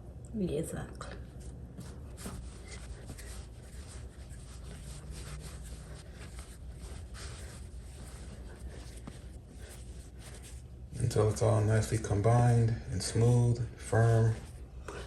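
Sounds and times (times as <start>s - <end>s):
hands kneading dough: 1.1s - 15.0s.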